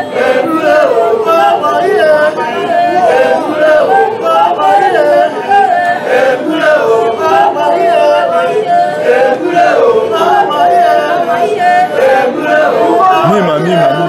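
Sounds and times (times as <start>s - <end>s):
group singing in chorus: 0.0s - 14.0s.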